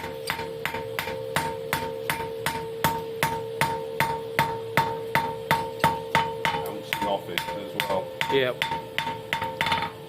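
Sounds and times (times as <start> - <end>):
hammer striking steel on anvil: 0.0 - 10.0
steady metallic ringing: 0.0 - 10.0.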